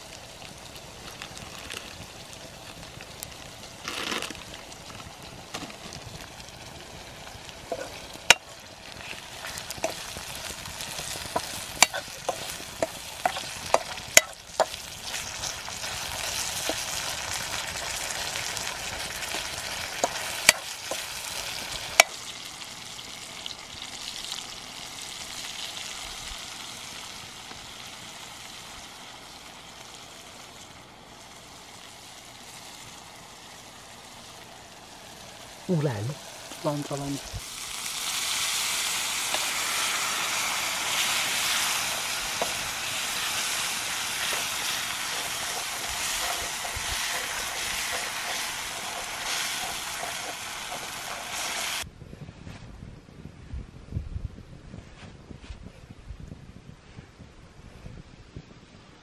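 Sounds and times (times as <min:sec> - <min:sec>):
vegetables sizzling in a pan: 0:00.0 - 0:51.9.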